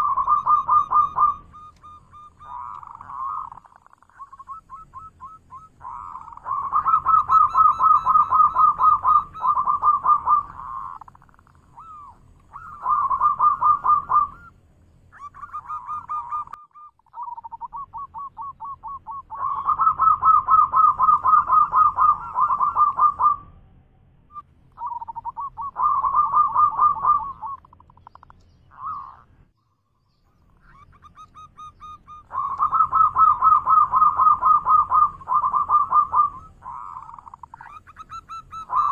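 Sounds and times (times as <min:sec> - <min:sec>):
dove cooing: 0:00.0 - 0:23.6, 0:24.3 - 0:29.3, 0:30.5 - 0:38.9.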